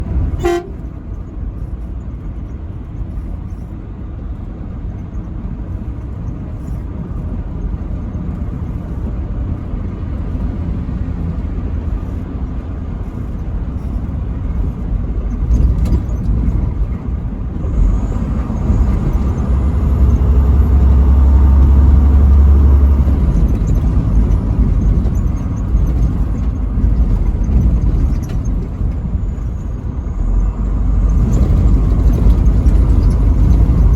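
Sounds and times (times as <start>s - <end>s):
truck engine and road rumble: 0.0s - 33.9s.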